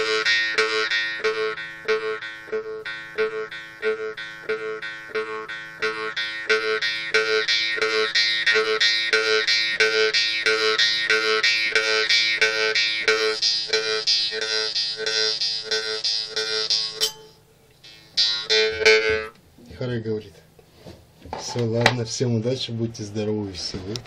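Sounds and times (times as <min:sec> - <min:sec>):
jew's harp twanging: 0:00.0 - 0:19.4.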